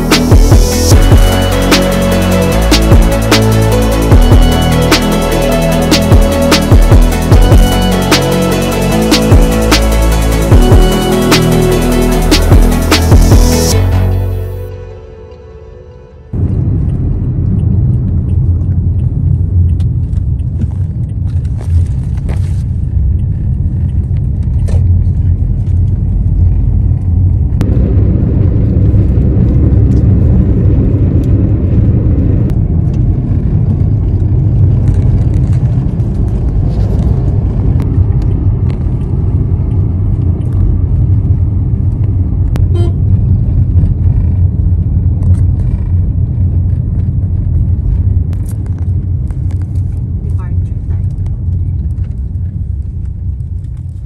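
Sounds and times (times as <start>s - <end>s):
road vehicle rumble: 0.0s - 54.0s.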